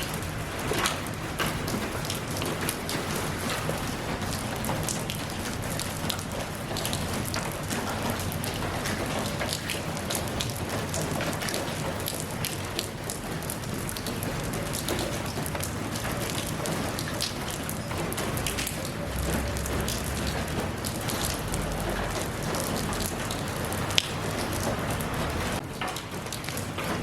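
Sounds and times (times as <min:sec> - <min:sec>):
rain hiss: 0:00.0 - 0:27.0
raindrops ticking on a surface: 0:00.0 - 0:27.0.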